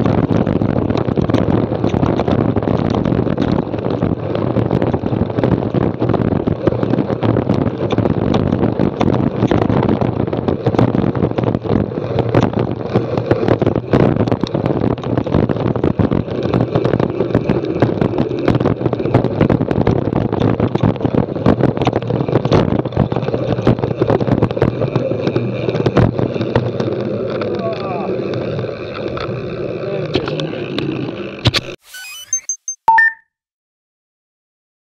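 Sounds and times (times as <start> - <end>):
wind buffeting microphone: 0.0 - 29.9
bike rattling over bumps: 0.0 - 31.4.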